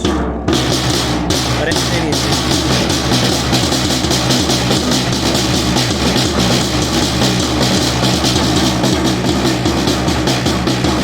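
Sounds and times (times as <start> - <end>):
snare drums fast rhythm: 0.0 - 11.0
sustained low notes: 0.0 - 11.0.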